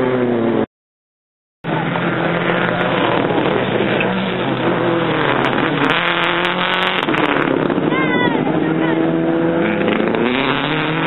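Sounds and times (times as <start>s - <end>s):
exhaust crackles: 1.6s - 11.0s
rally car engine passing: 1.7s - 11.0s.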